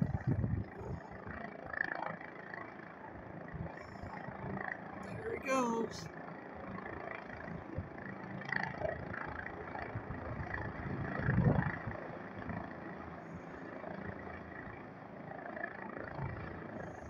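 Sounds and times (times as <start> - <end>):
helicopter rotor and engine: 0.2 - 5.0, 6.1 - 17.0.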